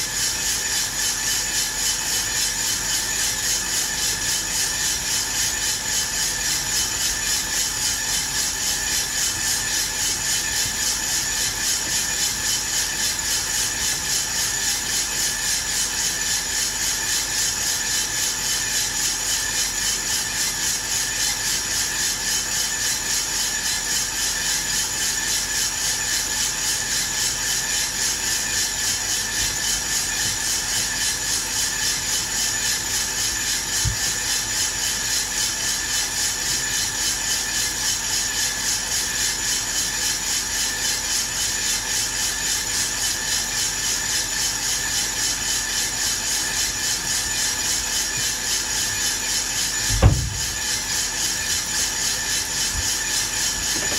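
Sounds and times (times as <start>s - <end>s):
roaster fan running: 0.0s - 53.9s
coffee beans tumbling in roaster drum: 0.1s - 53.9s.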